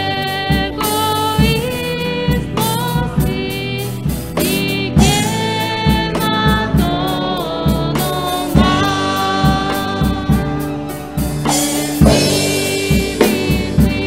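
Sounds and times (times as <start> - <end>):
strummed acoustic guitars: 0.0 - 14.0
voices singing a hymn: 0.0 - 14.0.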